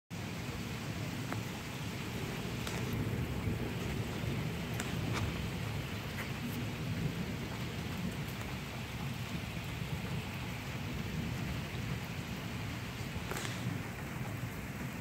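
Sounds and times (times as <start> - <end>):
rain falling: 0.1 - 15.0
thunder rumbling: 0.2 - 15.0.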